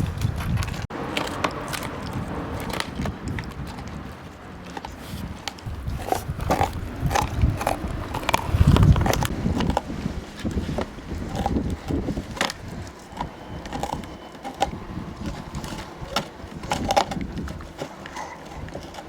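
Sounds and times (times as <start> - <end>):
dog gnawing on bone: 0.1 - 19.0.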